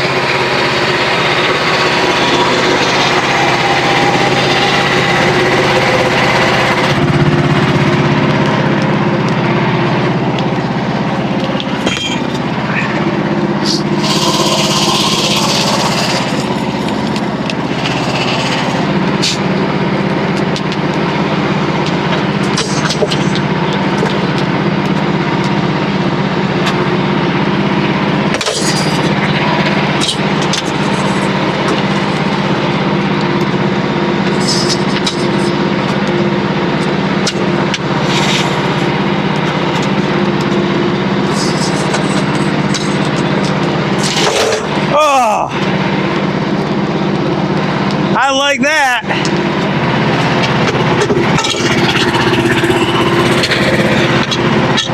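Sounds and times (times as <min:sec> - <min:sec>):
band saw cutting log: 0:00.0 - 0:54.9
small gas engine under load: 0:00.0 - 0:54.9.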